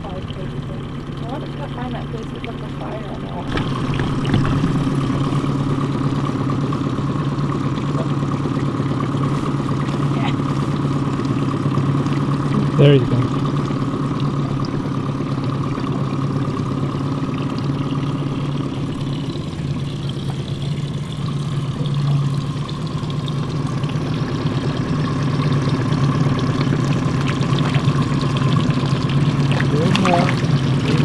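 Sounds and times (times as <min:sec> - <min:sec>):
outboard motor droning: 0:00.0 - 0:31.0
fish splashing at surface: 0:00.8 - 0:31.0.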